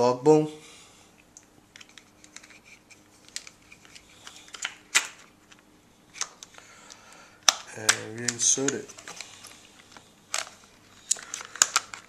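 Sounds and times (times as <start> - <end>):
small hard clicks of plastic parts: 1.4 - 12.0.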